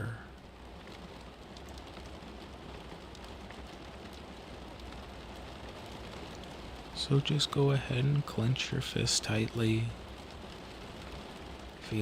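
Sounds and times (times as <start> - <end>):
soft steady rain: 0.0 - 12.0.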